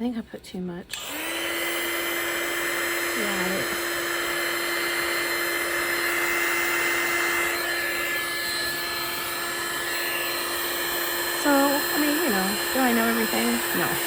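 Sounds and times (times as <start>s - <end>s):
hot-air blower humming: 0.0s - 14.0s.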